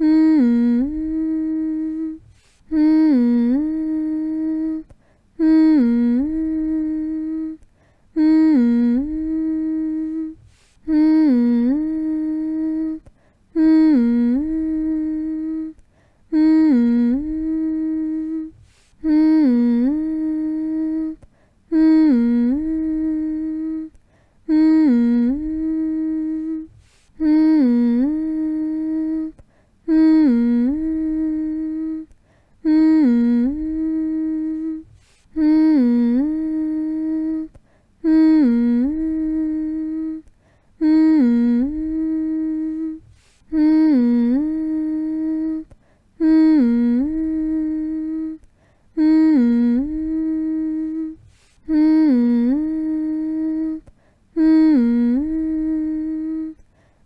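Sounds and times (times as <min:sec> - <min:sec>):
person humming: 0:00.0 - 0:56.7.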